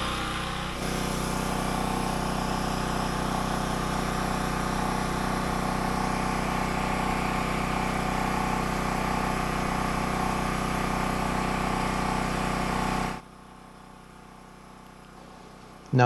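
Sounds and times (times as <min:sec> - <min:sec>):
generator engine drone: 0:00.0 - 0:16.0.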